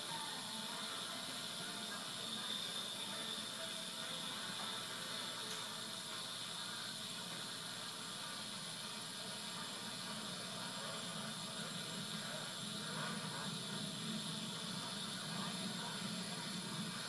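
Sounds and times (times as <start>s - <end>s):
videotape hiss: 0.0s - 17.0s.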